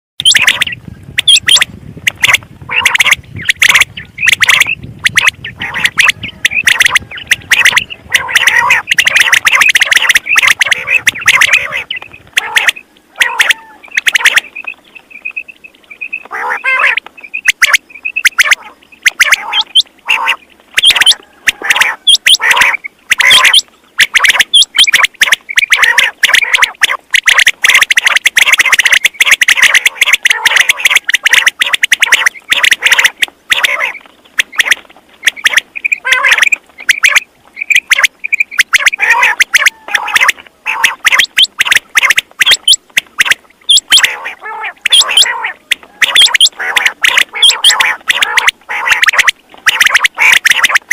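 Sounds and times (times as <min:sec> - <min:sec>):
quail calling: 0:00.2 - 0:50.9.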